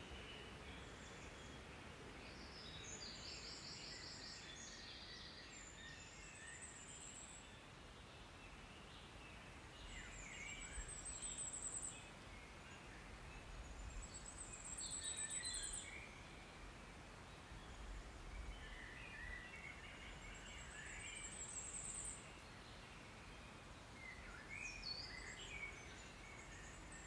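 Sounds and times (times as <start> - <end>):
faint steady hiss: 0.0 - 27.0
songbirds singing trills: 0.0 - 27.0.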